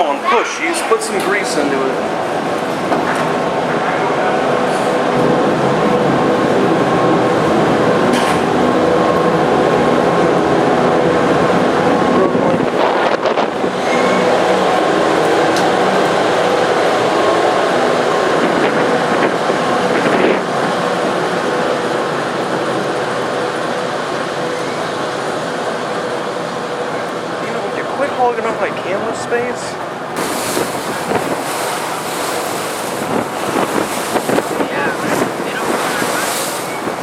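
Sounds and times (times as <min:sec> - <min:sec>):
ferry engine drone: 0:00.0 - 0:37.0.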